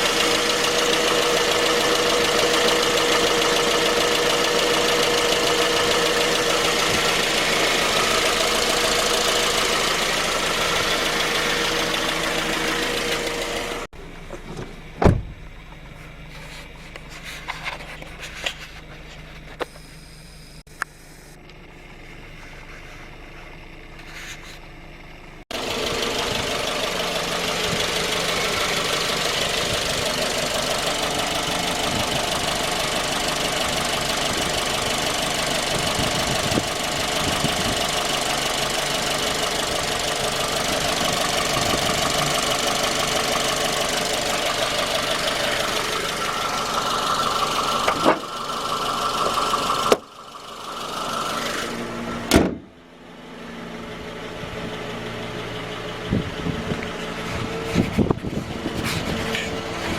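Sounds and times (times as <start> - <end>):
engine running with a knock: 0.0 - 24.7, 25.5 - 50.2, 50.9 - 52.8, 55.6 - 59.9.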